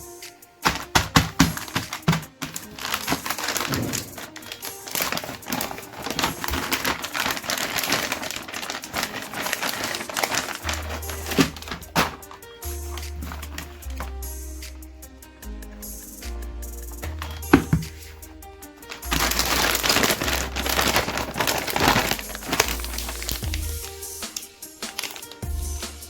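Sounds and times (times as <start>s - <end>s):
plastic packaging crinkling: 0.6s - 14.2s, 17.1s - 18.1s, 18.8s - 25.6s.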